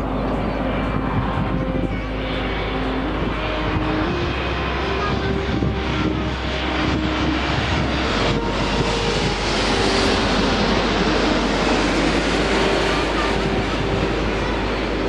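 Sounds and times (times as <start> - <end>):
jet engine rushing: 0.0 - 15.0.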